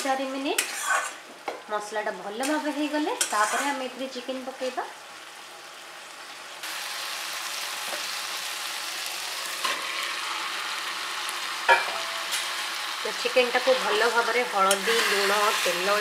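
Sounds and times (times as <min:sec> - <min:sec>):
paste sizzling in a pan: 0:00.0 - 0:01.3, 0:02.4 - 0:16.0
chicken frying sizzle: 0:00.0 - 0:16.0.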